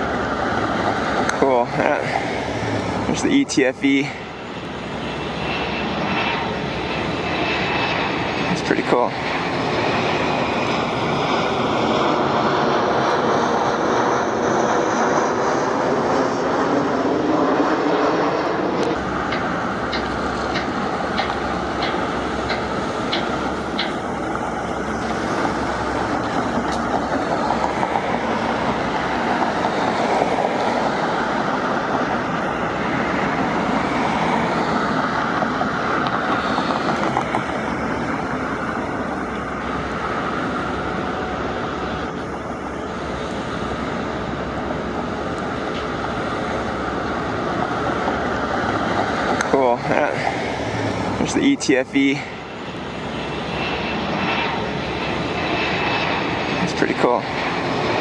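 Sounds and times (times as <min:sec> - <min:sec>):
jet aircraft passing overhead: 0:00.0 - 0:58.0.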